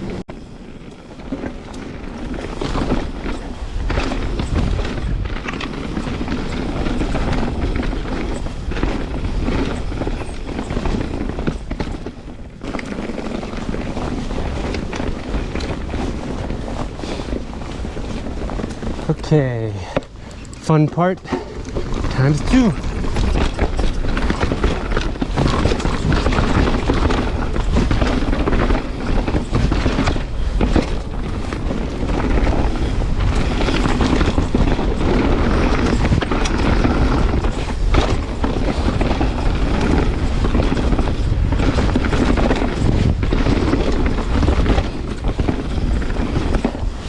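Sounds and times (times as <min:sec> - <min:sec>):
bike rattling and knocking: 0:00.0 - 0:47.0
bike tyre roar: 0:00.0 - 0:47.0
wind rumble on microphone: 0:00.0 - 0:47.0.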